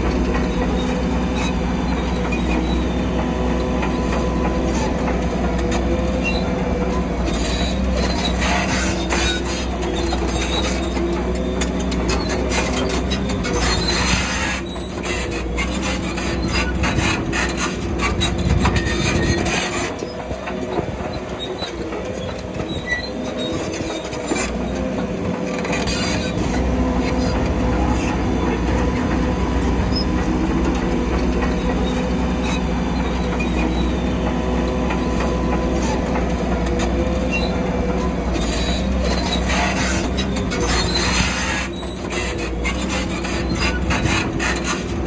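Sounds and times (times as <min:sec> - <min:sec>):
bulldozer diesel drone: 0:00.0 - 0:45.0
steel tracks squealing and clanking: 0:00.0 - 0:45.0.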